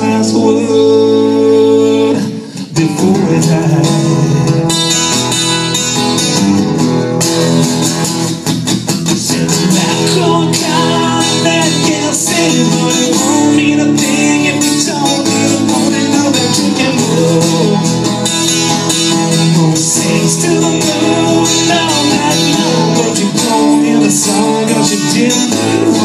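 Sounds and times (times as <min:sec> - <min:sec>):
acoustic guitar country instrumental: 0:00.0 - 0:26.0.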